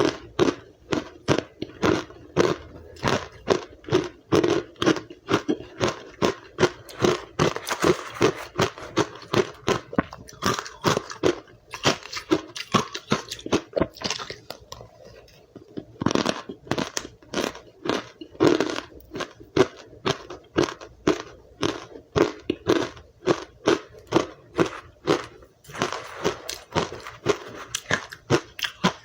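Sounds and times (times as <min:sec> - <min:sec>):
crunching and chewing ice: 0:00.0 - 0:29.0.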